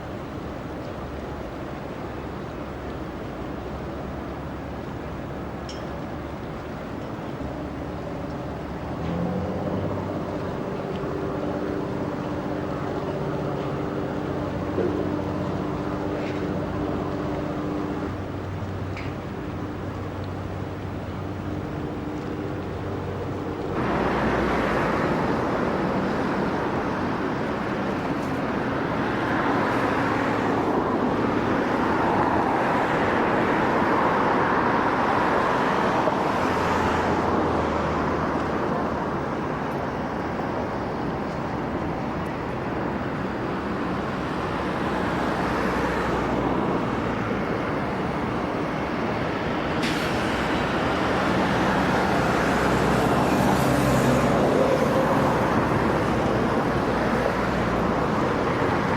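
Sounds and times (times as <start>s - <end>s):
traffic noise: 0.0s - 58.9s.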